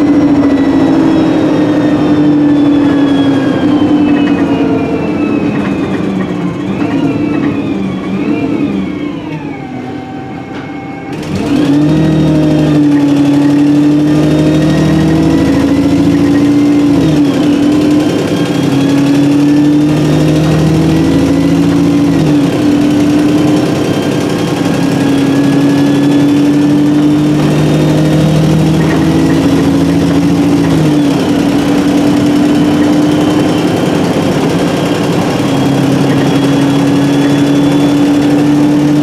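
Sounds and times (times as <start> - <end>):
bus engine pulling away: 0.0 - 39.0.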